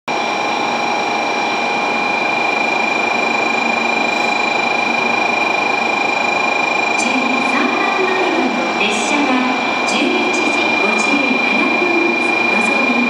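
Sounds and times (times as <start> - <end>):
high whining tones: 0.1 - 13.0
train mechanical rush: 0.1 - 13.0.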